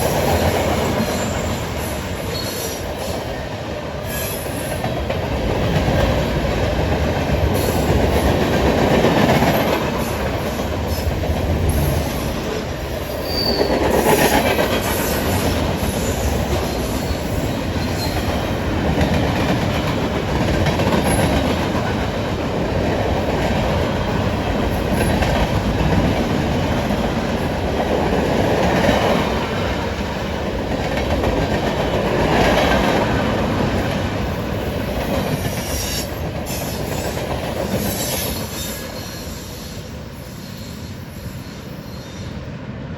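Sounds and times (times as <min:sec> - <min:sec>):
train passing on rails: 0:00.0 - 0:42.9.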